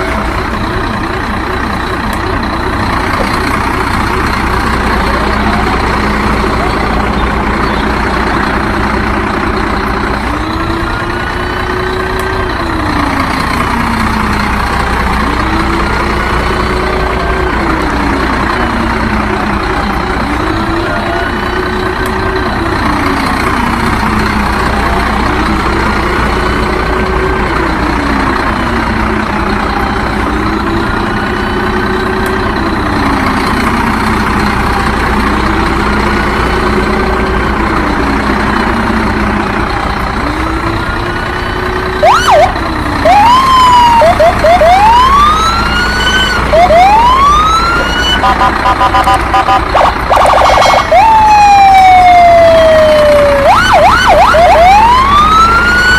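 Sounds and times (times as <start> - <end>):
truck engine revving: 0.0 - 55.9.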